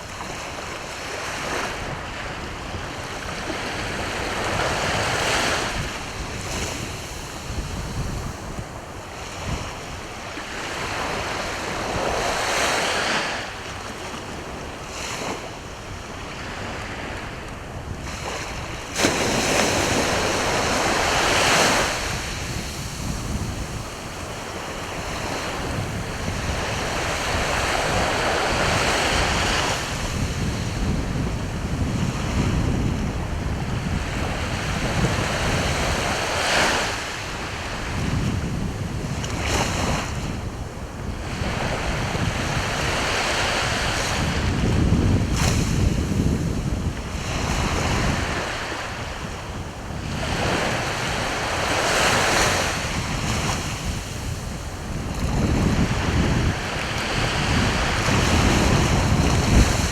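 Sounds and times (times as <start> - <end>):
sea waves breaking: 0.0 - 59.9
wind rumbling on microphone: 0.0 - 59.9.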